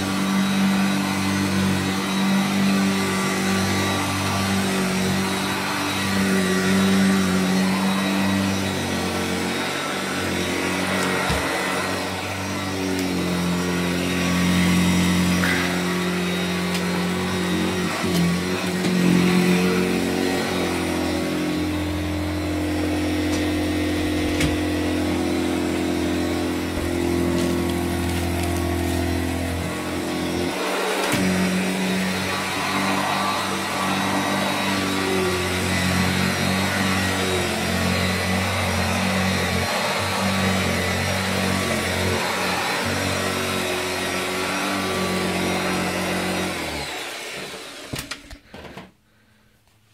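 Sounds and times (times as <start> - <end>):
vacuum cleaner running on carpet: 0.0 - 48.8.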